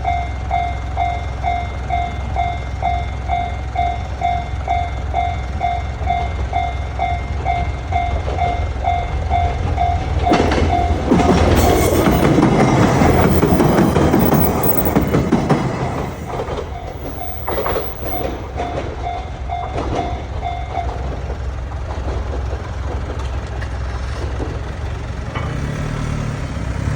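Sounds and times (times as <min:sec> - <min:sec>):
level crossing warning bell: 0:00.0 - 0:21.8
train wheels rumbling and clacking: 0:00.0 - 0:26.9.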